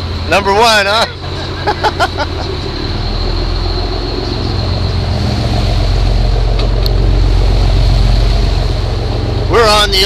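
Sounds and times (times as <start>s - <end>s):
boat engine droning: 0.0s - 10.0s
wind and water rushing: 0.0s - 10.0s.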